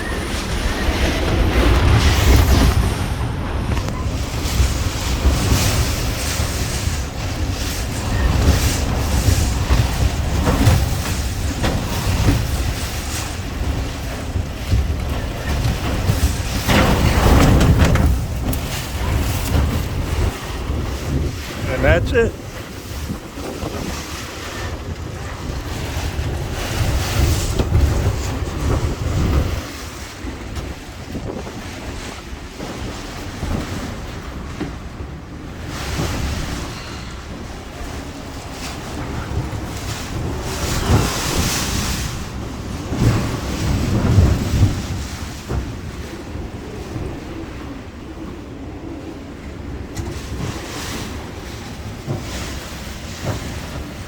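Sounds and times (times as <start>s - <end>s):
strong wind gusts: 0.0s - 54.0s
wind buffeting on microphone: 0.0s - 54.0s.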